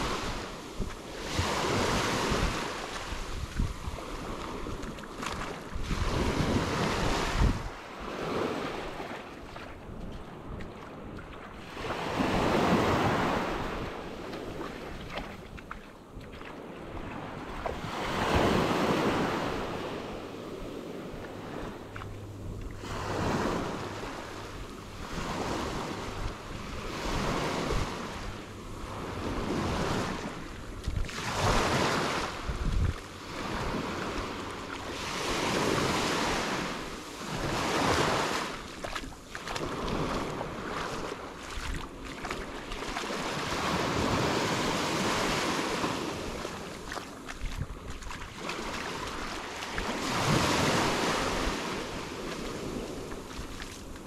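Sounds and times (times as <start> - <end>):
ocean waves breaking on sand: 0.0 - 54.0.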